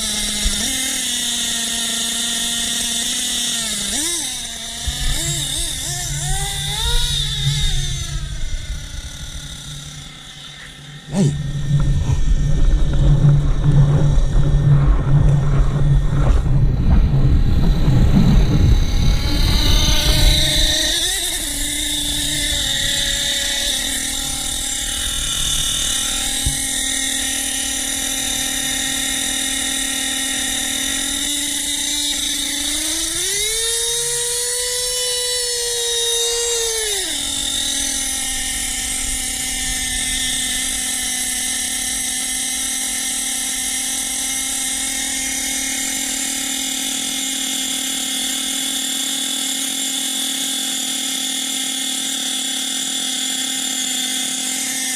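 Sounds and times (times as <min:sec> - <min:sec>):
nitro engine revving: 0:00.0 - 0:54.9.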